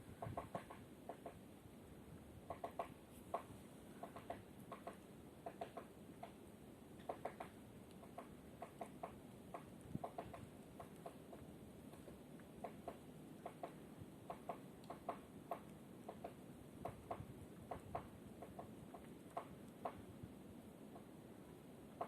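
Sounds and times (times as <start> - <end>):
woodpecker tapping on wood: 0.1 - 1.4, 2.4 - 6.4, 7.0 - 20.0, 20.9 - 21.1.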